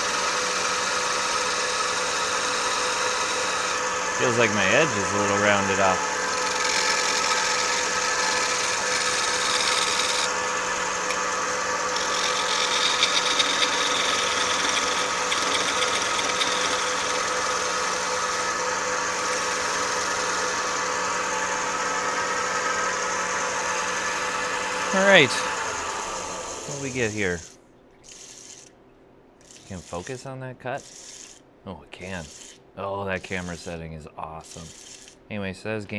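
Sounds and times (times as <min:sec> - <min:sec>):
turning tool cutting wood: 0:00.0 - 0:28.7, 0:29.4 - 0:30.2, 0:30.8 - 0:31.4, 0:32.0 - 0:32.6, 0:34.5 - 0:35.2
wood lathe motor hum: 0:00.0 - 0:28.7, 0:29.4 - 0:30.1, 0:30.8 - 0:31.4, 0:32.2 - 0:32.6, 0:34.5 - 0:35.2.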